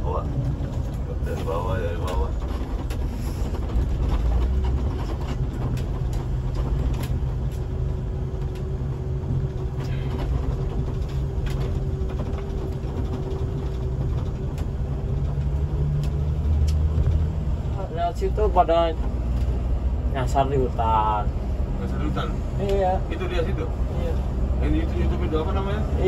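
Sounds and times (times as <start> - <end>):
diesel bus engine drone: 0.0 - 26.0.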